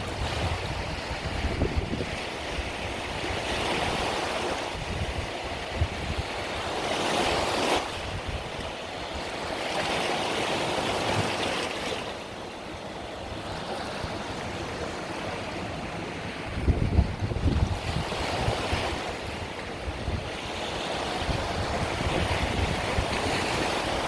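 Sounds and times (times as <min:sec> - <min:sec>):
wind buffeting microphone: 0:00.0 - 0:11.8, 0:12.6 - 0:24.0
small waves breaking on beach: 0:00.0 - 0:24.0.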